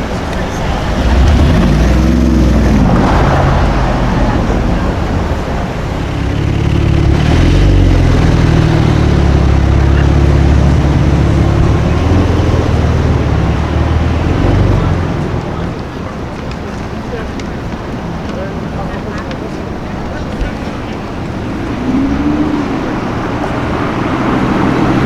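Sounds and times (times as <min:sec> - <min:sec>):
sports car engine running: 0:00.0 - 0:25.0.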